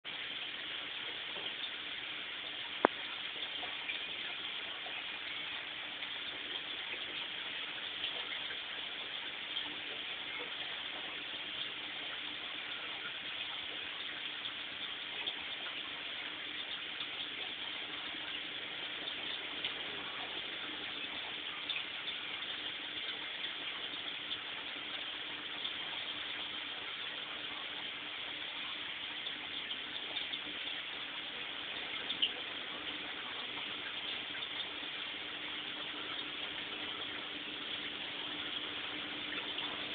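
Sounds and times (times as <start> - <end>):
water pouring and splashing: 0.1 - 39.9.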